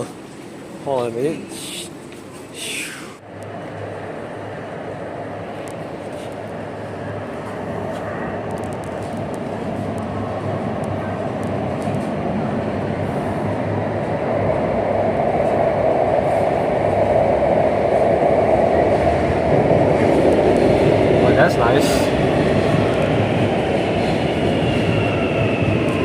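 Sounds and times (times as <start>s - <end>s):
metro train approaching: 0.0s - 26.0s.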